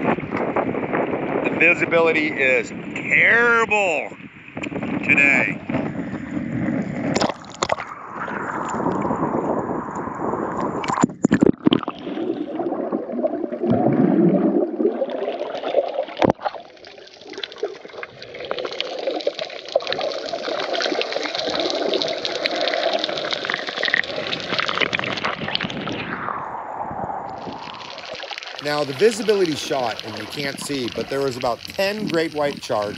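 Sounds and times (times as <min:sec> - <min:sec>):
sea water sloshing and gurgling: 0:00.0 - 0:32.9.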